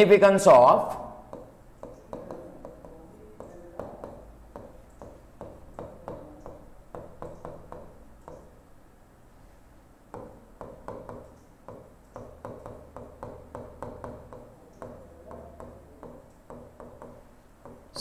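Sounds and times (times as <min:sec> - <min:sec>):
stylus tapping on glass: 0:01.3 - 0:08.6, 0:10.1 - 0:18.0.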